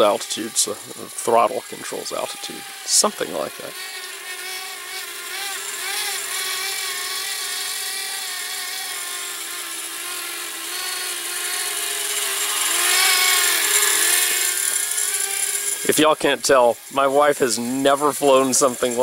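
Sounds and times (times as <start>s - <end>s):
small quadcopter propellers whining: 0.0s - 19.0s.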